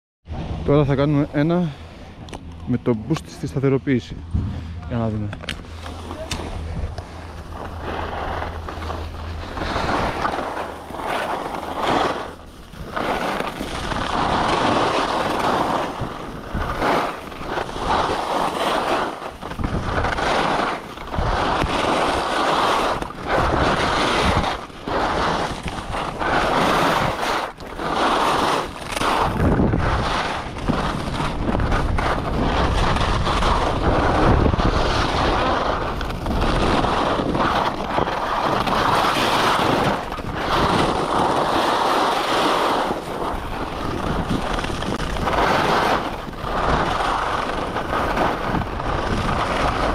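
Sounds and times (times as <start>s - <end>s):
wind roaring over microphone: 0.3s - 49.9s.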